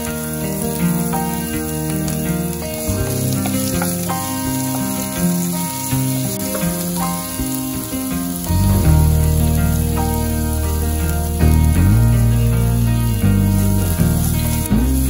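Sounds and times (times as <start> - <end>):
background music: 0.0 - 15.0
vegetables sizzling in oil: 0.0 - 15.0.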